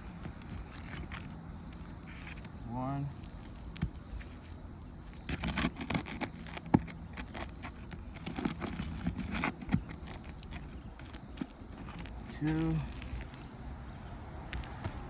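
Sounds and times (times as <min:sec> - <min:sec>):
roofing tool scraping and clicking: 0:00.2 - 0:02.6, 0:03.2 - 0:13.5.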